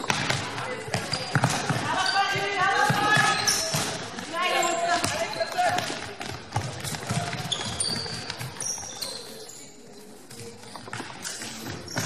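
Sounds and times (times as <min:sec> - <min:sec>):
shoes squeaking on hall floor: 0:00.0 - 0:12.0.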